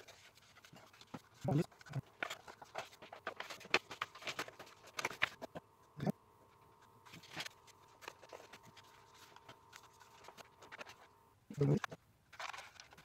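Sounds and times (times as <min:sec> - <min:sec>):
paper rustling and crinkling: 0:00.0 - 0:05.6, 0:06.5 - 0:13.0.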